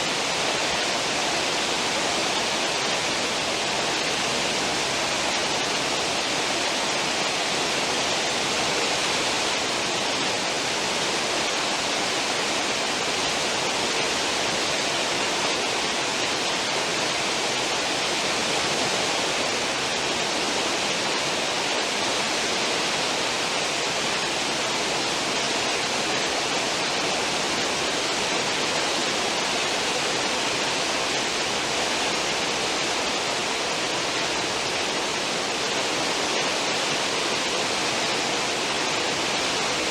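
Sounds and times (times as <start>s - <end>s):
churning foaming water: 0.0s - 39.9s.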